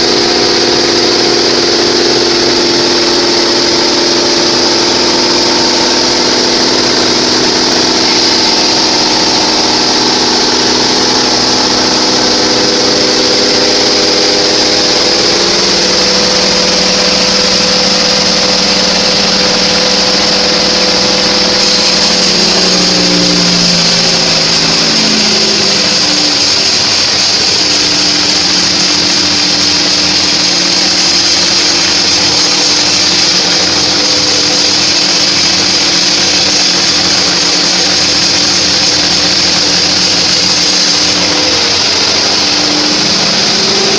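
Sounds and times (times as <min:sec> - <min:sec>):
bandsaw sawmill running: 0:00.0 - 0:43.9.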